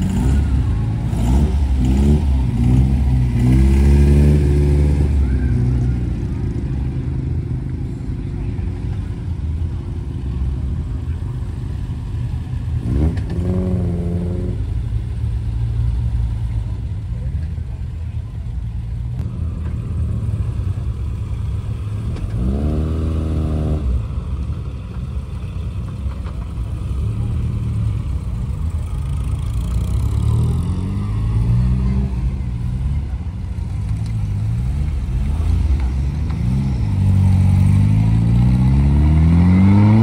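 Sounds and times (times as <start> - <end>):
sports car engines revving: 0.0 - 40.0.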